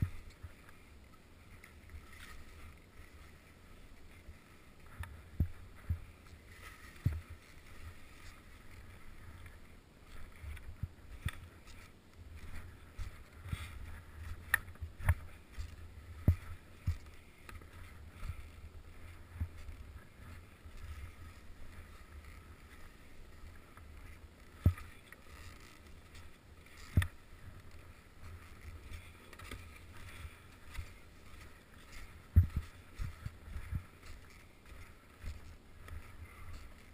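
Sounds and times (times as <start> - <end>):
skis sliding through snow: 0.0 - 36.9.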